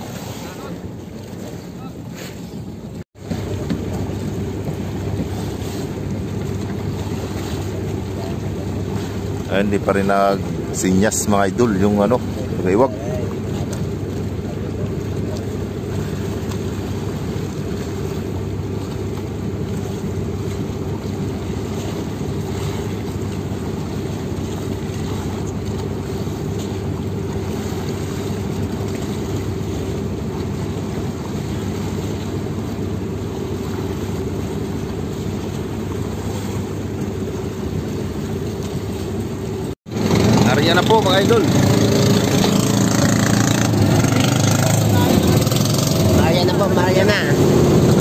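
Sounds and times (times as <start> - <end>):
boat engine droning: 0.0 - 48.0
water: 0.0 - 48.0
wind: 0.0 - 48.0.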